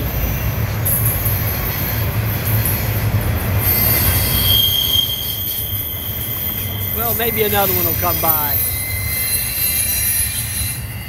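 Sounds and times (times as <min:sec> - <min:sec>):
freight train rumbling: 0:00.0 - 0:11.0
steel wheels squealing on rails: 0:00.0 - 0:11.0.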